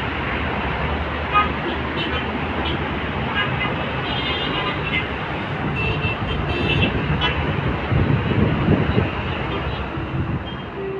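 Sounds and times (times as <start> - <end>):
road traffic noise: 0.0 - 10.9.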